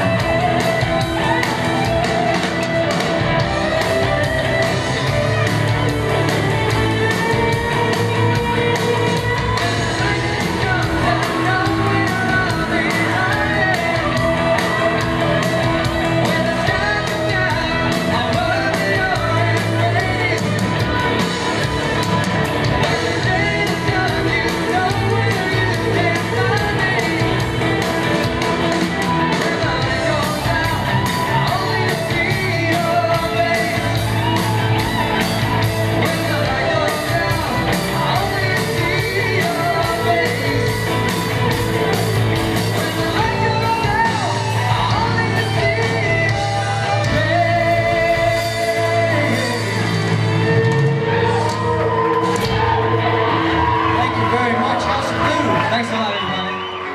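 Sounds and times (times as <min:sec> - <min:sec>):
drums: 0:00.0 - 0:56.9
electric guitars: 0:00.0 - 0:56.9
man singing: 0:00.0 - 0:56.9.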